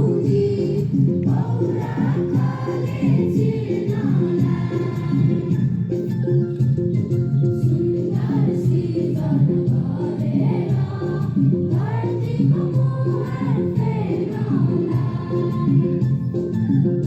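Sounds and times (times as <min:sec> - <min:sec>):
group of voices singing: 0:00.0 - 0:05.8, 0:07.6 - 0:16.6
repeating musical accompaniment: 0:00.0 - 0:17.0.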